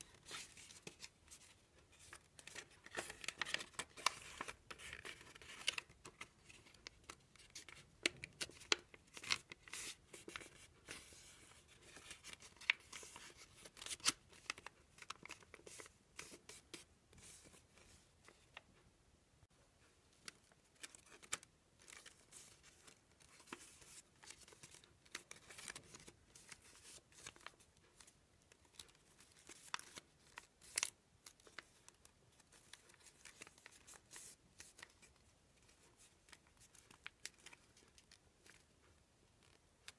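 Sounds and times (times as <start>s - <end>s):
paper rustling and crinkling: 0.0s - 18.6s, 20.2s - 38.7s.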